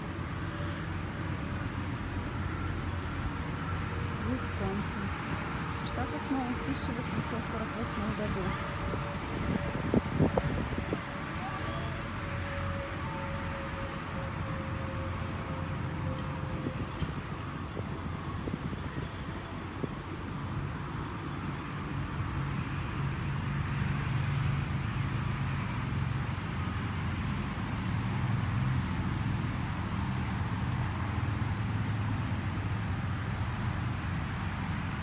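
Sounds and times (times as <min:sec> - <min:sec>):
insects chirping: 0:02.1 - 0:12.8, 0:13.4 - 0:19.7, 0:20.4 - 0:23.6, 0:24.2 - 0:35.0.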